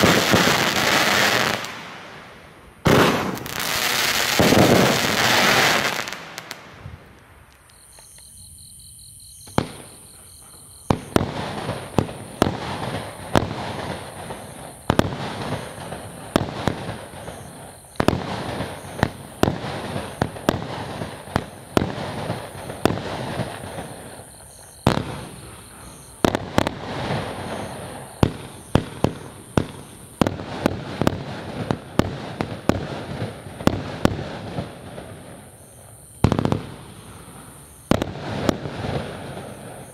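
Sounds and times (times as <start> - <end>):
fireworks bursting pops: 0.0 - 2.2, 2.8 - 8.4, 9.4 - 39.9
fireworks hiss: 0.0 - 39.9.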